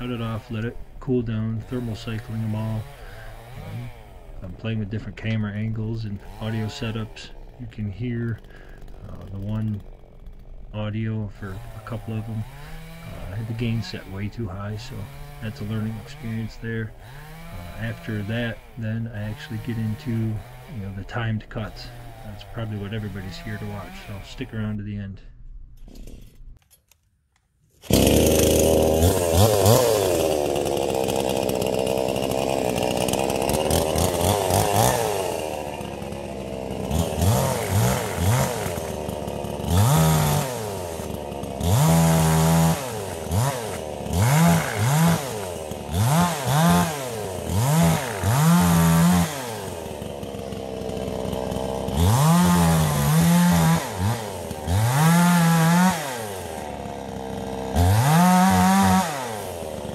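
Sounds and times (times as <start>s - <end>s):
chainsaw revving: 0.0s - 24.8s, 27.8s - 59.9s.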